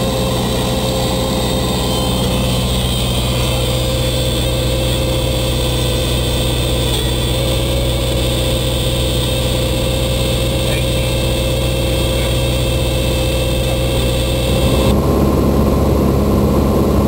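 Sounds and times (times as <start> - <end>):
propeller plane engine drone: 0.0 - 17.0
steady hum: 0.0 - 17.0.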